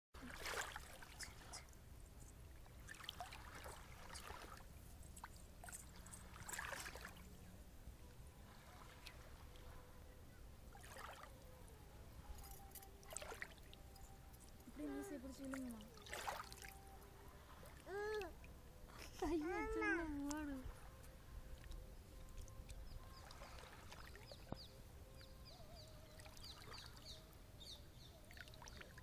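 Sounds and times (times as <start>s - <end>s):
small waves lapping: 0.2s - 29.0s.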